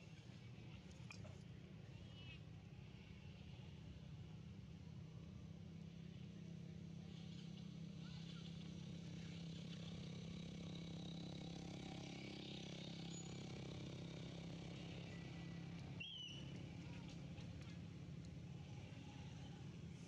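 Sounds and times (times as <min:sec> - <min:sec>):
distant engine hum: 0:00.0 - 0:20.0.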